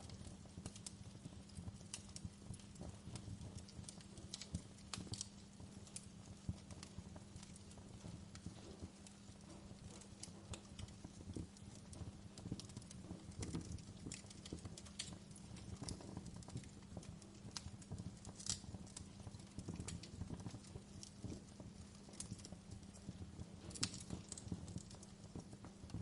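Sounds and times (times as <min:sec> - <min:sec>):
fire low rumble: 0:00.0 - 0:26.0
wood fire crackling: 0:00.0 - 0:26.0.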